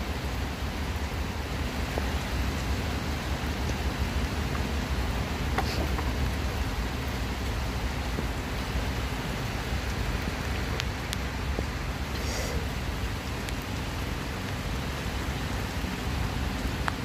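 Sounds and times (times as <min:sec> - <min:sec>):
heavy rain hissing: 0:00.0 - 0:17.0
sharp ticks of raindrops: 0:00.0 - 0:17.0.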